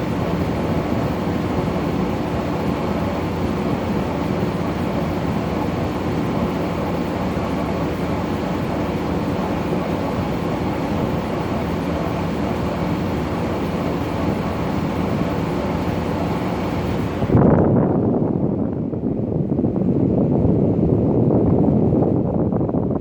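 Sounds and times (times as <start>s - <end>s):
air conditioner humming: 0.0s - 23.0s.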